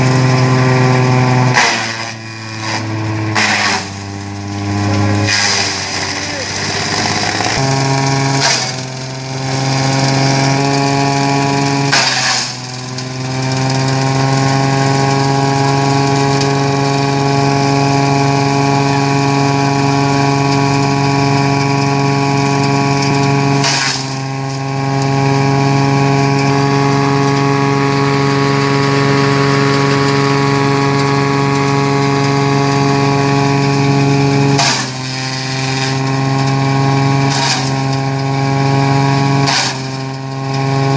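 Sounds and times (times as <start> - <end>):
leaf shredder running: 0.0 - 40.9
loud shredding bursts: 0.0 - 40.9.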